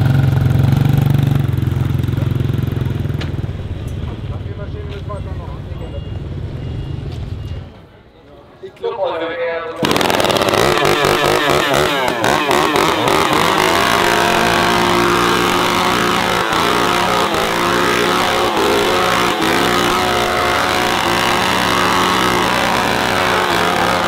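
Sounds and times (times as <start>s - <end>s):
small two-stroke engines revving: 0.0s - 7.0s, 9.8s - 24.0s.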